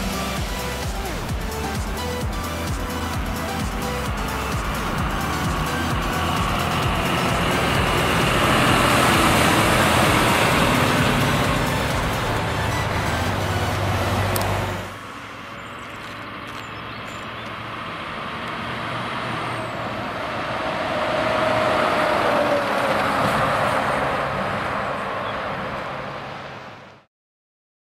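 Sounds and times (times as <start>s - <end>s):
truck engine rumbling: 0.0s - 26.8s
truck passing by: 0.0s - 27.1s.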